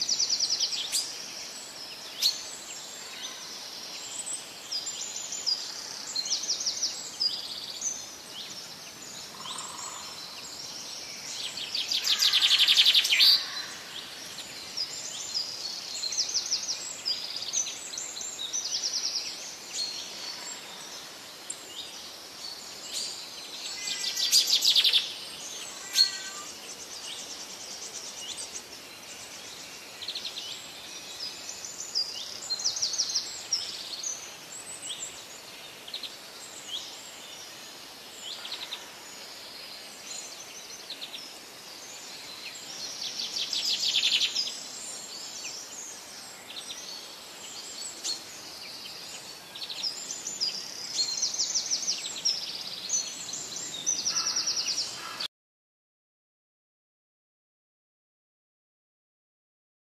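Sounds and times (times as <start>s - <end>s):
birds chirping and trilling: 0.0s - 55.3s
faint outdoor hiss: 0.0s - 55.3s.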